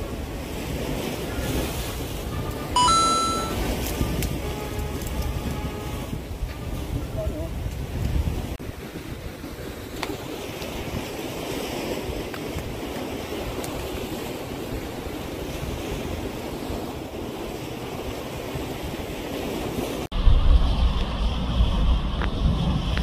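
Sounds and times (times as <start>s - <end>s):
sea waves washing against concrete: 0.0s - 23.0s
wind buffeting microphone: 3.5s - 23.0s.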